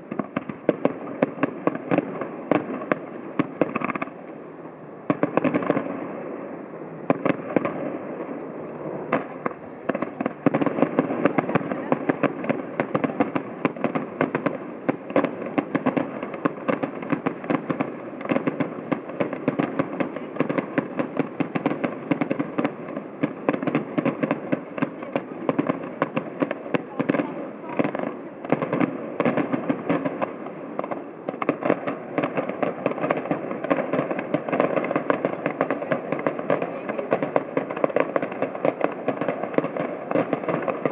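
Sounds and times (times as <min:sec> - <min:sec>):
fireworks crackling: 0:00.0 - 0:40.9
loud firework bangs: 0:00.0 - 0:40.9.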